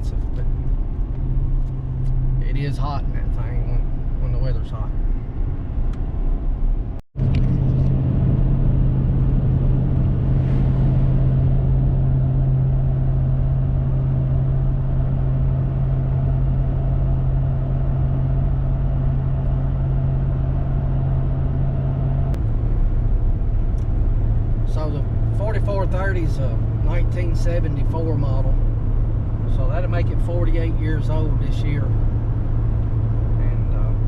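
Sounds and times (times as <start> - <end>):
diesel truck engine running: 0.0 - 34.0
road noise: 0.0 - 34.0.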